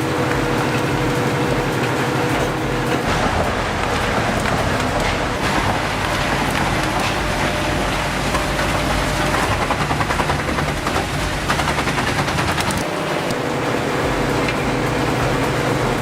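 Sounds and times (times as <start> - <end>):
heavy machinery running: 0.0 - 16.0
rapid clattering impacts: 0.0 - 16.0.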